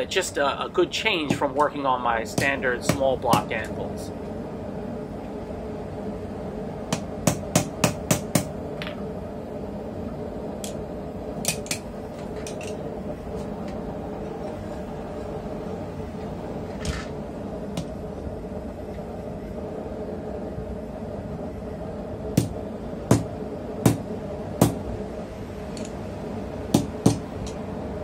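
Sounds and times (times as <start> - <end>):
steady background noise: 0.0 - 28.0.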